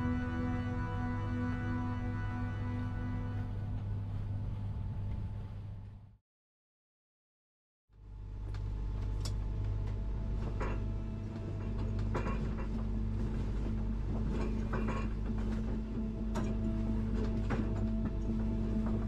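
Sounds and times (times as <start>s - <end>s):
steady low drone: 0.0s - 6.2s, 8.2s - 19.0s.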